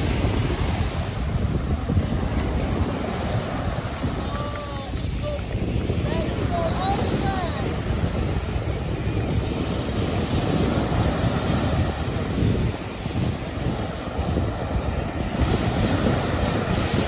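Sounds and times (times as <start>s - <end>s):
surf breaking on sand: 0.0s - 17.0s
wind rumbling on microphone: 0.0s - 17.0s.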